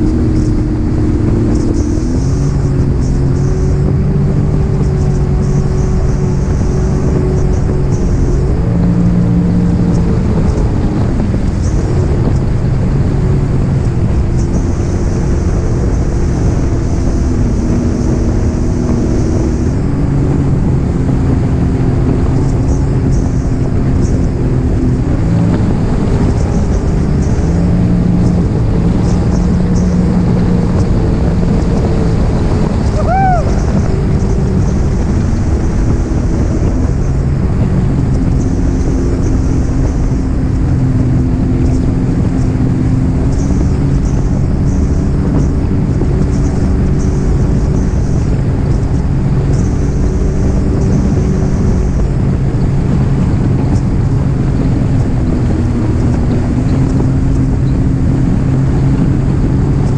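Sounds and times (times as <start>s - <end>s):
jet ski engine: 0.0s - 59.9s
water rushing against hull: 0.0s - 59.9s
wind buffeting microphone: 0.0s - 59.9s.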